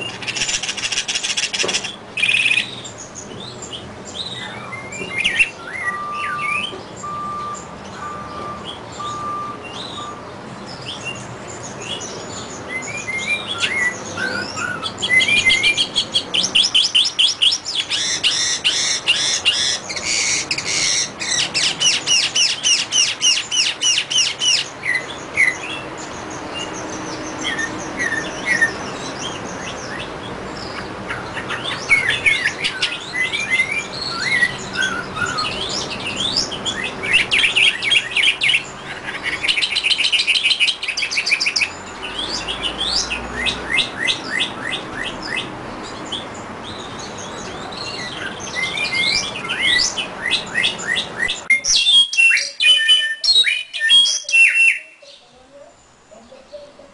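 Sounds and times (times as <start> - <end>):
mockingbird singing: 0.0 - 56.9.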